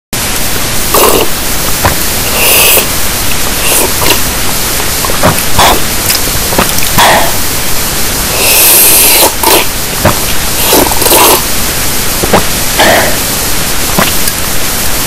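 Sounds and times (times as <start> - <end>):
harsh static noise: 0.1 - 15.0.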